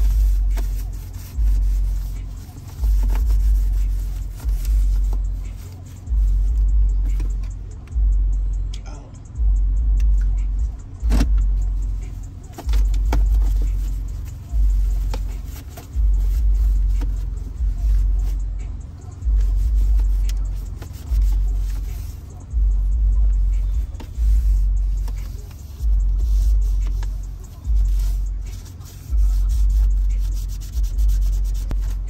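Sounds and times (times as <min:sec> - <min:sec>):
deep bass thumps inside a car: 0:00.0 - 0:32.0.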